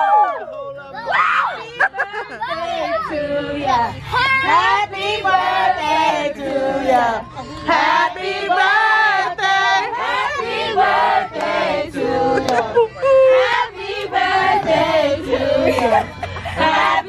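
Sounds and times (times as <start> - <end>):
group singing together: 1.6 - 17.0.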